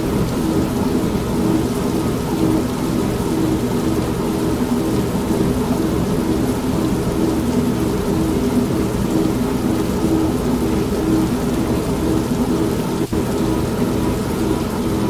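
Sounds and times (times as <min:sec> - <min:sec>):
steady rain: 0:00.0 - 0:15.0
washing machine pulsing hum: 0:00.0 - 0:15.0.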